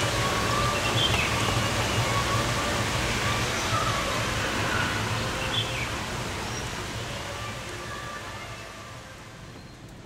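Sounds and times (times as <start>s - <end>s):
heavy rain on trees: 0.0s - 10.0s.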